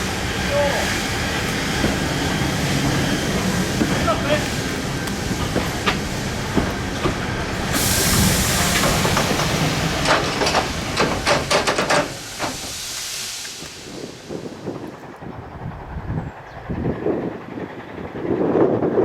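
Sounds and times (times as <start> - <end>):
steam locomotive hissing steam: 0.0 - 19.0
train running noise: 0.0 - 19.0.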